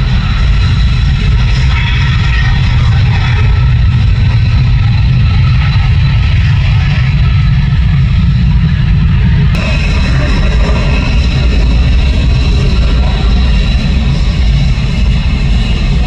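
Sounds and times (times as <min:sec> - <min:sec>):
high jet whine: 0:00.0 - 0:16.0
jet engine rumble: 0:00.0 - 0:16.0.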